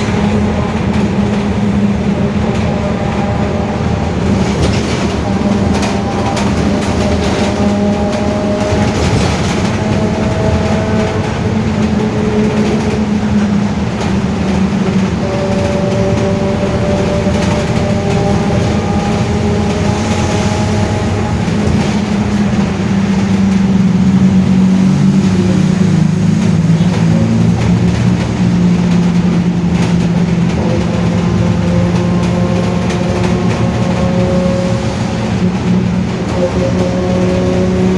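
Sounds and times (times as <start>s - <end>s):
bus differential whining: 0.0s - 37.9s
bus running hum: 0.0s - 37.9s.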